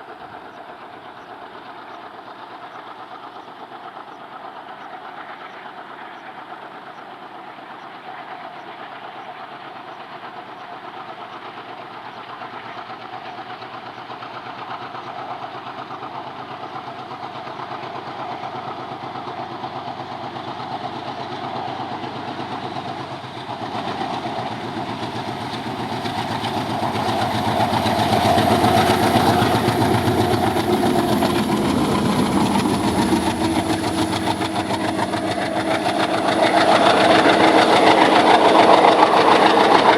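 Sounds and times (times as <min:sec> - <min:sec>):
diesel locomotive engines running: 0:00.0 - 0:39.9.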